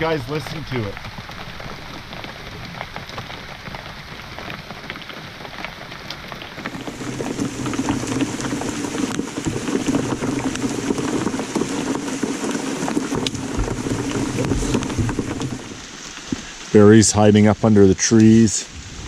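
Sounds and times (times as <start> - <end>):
raindrops ticking close by: 0.0 - 19.0
torrential rain pouring: 0.0 - 19.0.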